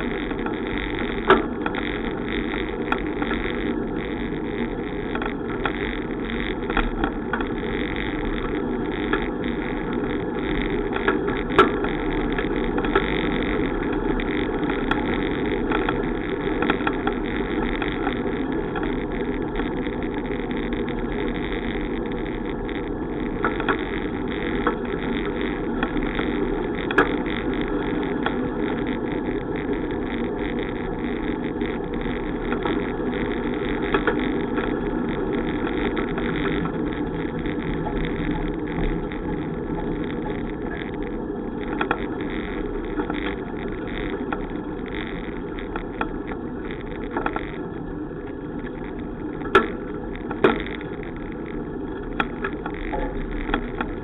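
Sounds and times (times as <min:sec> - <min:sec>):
bicycle wind and road noise: 0:00.0 - 0:54.0.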